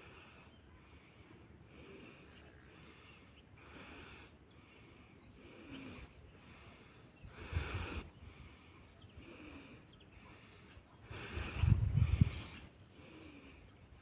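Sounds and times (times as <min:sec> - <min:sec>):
breaths hissing through nostril: 0:00.0 - 0:14.0.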